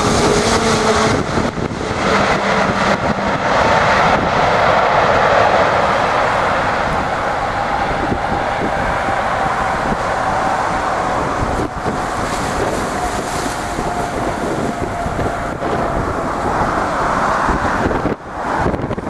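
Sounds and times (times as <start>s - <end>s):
jet engines whining: 0.0s - 19.0s
wind buffeting microphone: 0.0s - 19.0s.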